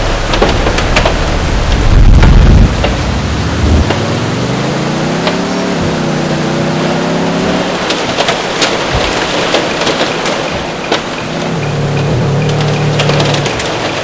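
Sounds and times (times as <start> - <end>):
car engine speeding up: 0.0 - 14.0
heavy rain and hail on a car: 0.0 - 14.0.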